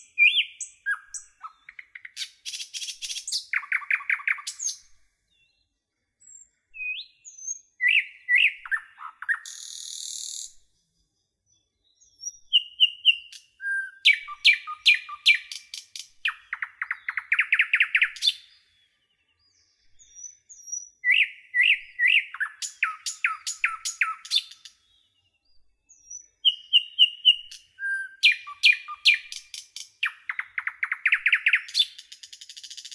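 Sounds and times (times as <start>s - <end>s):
bird singing chirps and trills: 0.0s - 32.9s.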